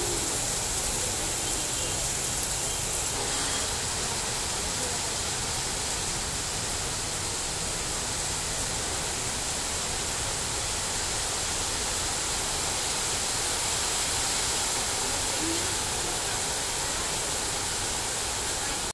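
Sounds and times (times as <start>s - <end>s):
heavy rain: 0.0s - 18.9s.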